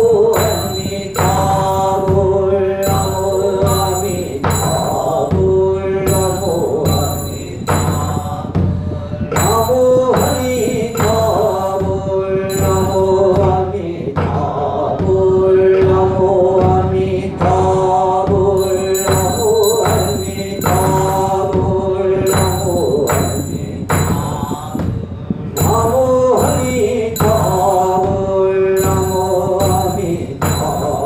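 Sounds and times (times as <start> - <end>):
person chanting: 0.0 - 31.0
steady knocking beat: 0.0 - 31.0.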